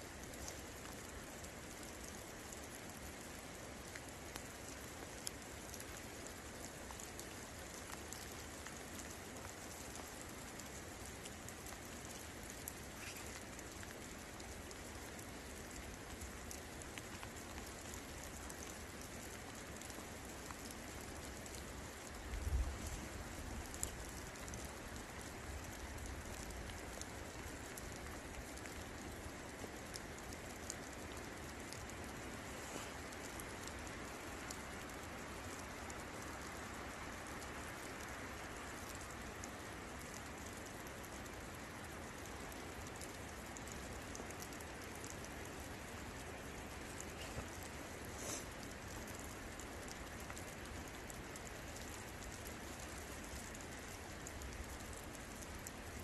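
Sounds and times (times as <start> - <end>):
raindrops ticking close by: 0.0 - 56.0
steady rain falling: 0.0 - 56.0.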